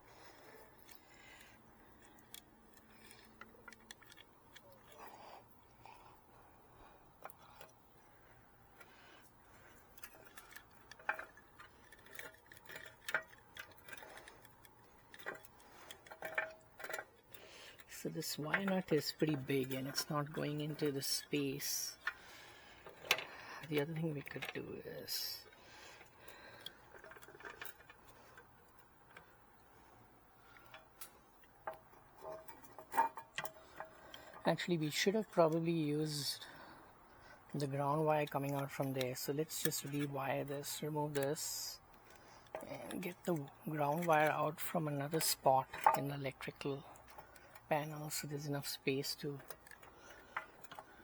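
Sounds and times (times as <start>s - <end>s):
clicks and taps of wires: 0.8s - 5.9s, 6.8s - 24.7s, 25.4s - 34.5s, 36.4s - 51.0s.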